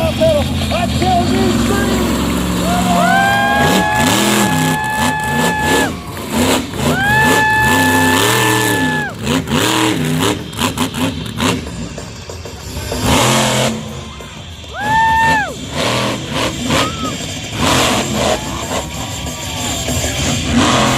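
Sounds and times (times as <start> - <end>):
vehicle engine revving: 0.0 - 20.9.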